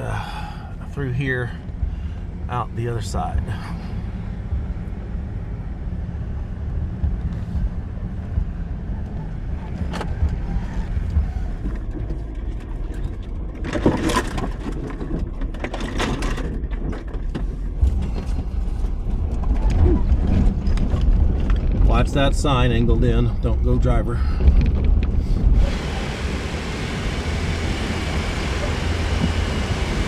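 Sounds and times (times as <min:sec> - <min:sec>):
low engine rumble: 0:00.0 - 0:30.0.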